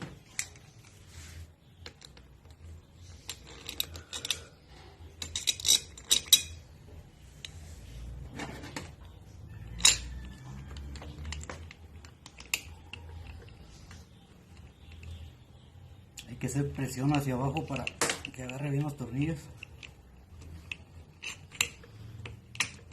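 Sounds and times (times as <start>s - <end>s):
plastic parts clicking and knocking: 1.8s - 7.6s, 8.2s - 22.9s.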